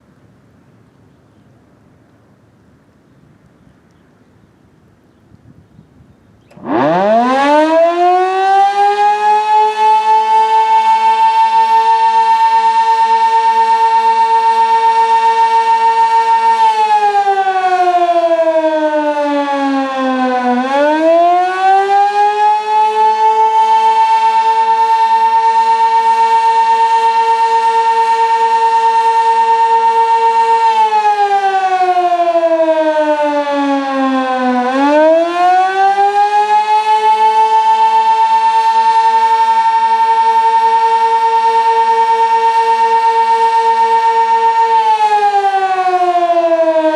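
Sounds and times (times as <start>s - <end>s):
rising and falling warning siren: 6.5s - 46.9s.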